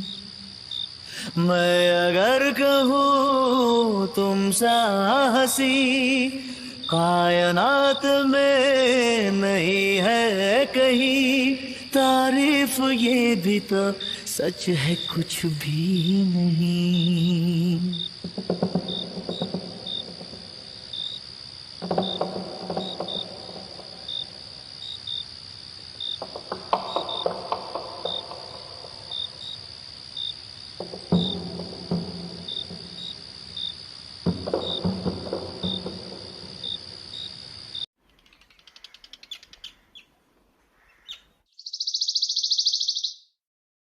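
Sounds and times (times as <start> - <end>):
crickets trilling: 0.0 - 40.0, 41.6 - 43.3.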